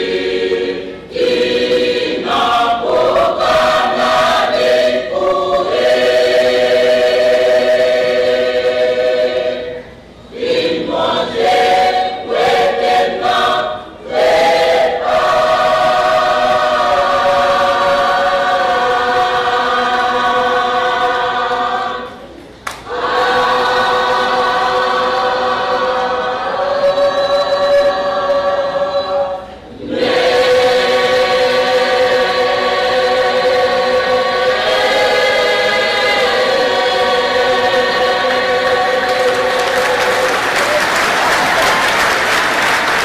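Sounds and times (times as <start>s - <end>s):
large choir singing: 0.0s - 43.0s.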